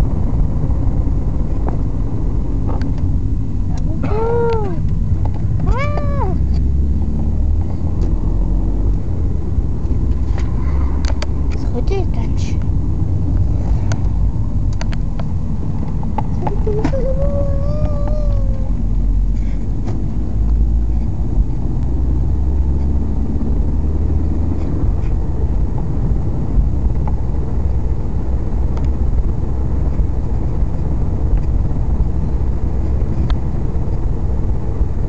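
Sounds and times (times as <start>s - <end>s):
car driving rumble from inside: 0.0s - 35.0s.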